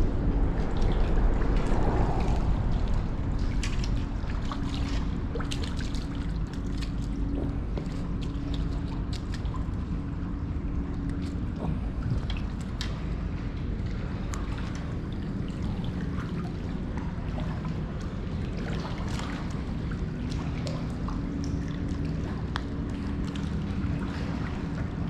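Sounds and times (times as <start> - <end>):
steady low hum: 0.0 - 25.0
water trickling and lapping: 0.0 - 25.0
wind rumbling on microphone: 0.0 - 25.0
small splashes and ticks: 0.2 - 25.0.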